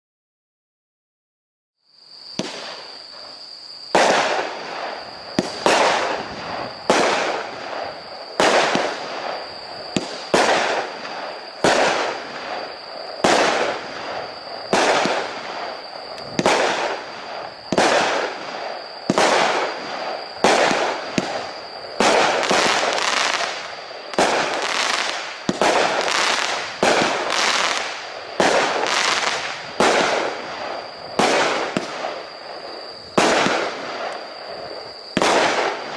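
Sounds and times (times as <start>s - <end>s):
fireworks bangs: 2.3s - 35.9s
steady high-pitched tone: 3.1s - 35.9s.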